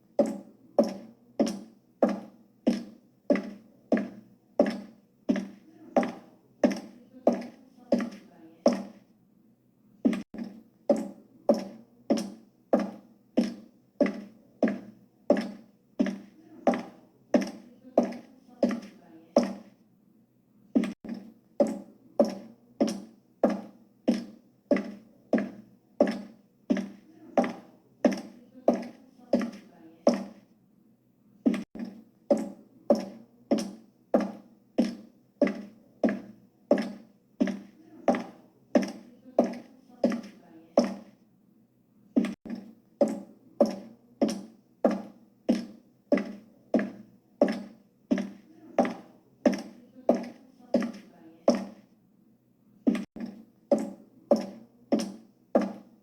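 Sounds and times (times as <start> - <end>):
high heel clicks: 0.2 - 9.0, 10.1 - 19.7, 20.8 - 30.4, 31.5 - 41.1, 42.2 - 51.8, 52.9 - 55.9.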